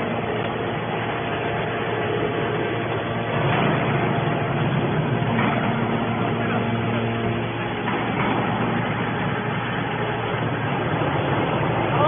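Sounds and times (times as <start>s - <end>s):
baler motor and pump humming: 0.0s - 12.0s.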